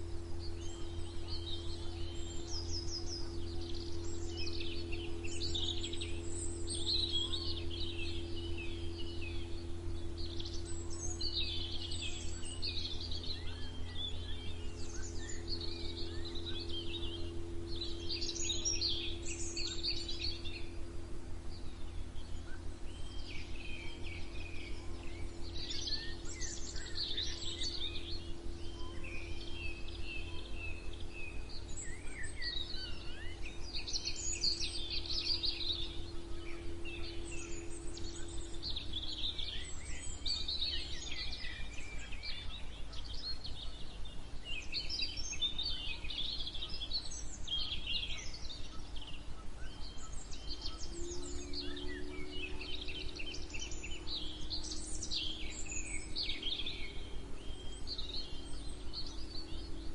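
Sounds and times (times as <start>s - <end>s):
songbirds chirping and singing: 0.0s - 59.9s
steady low hum: 0.0s - 59.9s.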